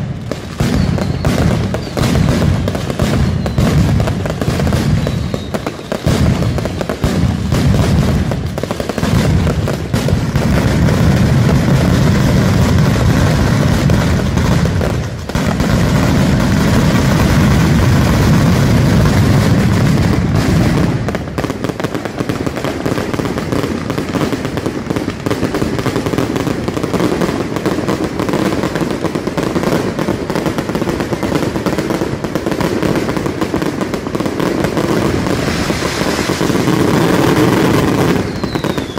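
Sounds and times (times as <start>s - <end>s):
firecracker barrage: 0.0s - 38.9s.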